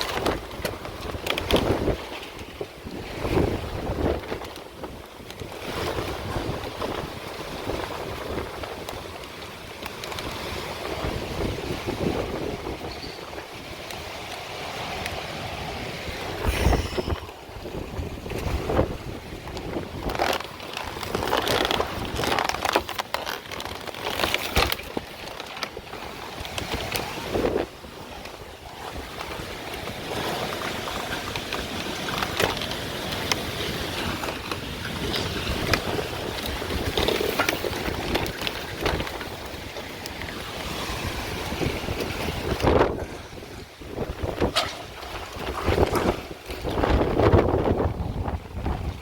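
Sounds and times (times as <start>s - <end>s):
knocks and rattles of wind-blown material: 0.0s - 49.0s
wind buffeting microphone: 0.0s - 49.0s.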